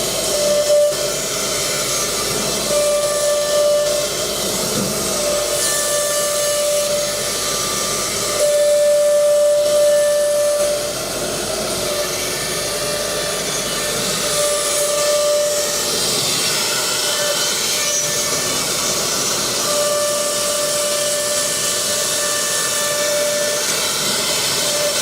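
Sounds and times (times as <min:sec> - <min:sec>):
router spindles whining: 0:00.0 - 0:25.0.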